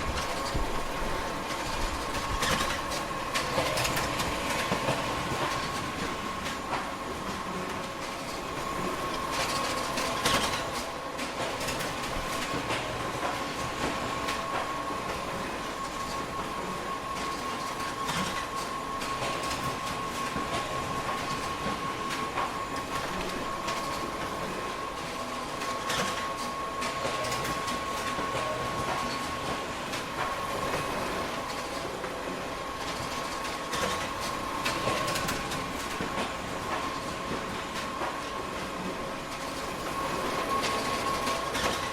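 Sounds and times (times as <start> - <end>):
photocopier running with whine: 0.0 - 41.9.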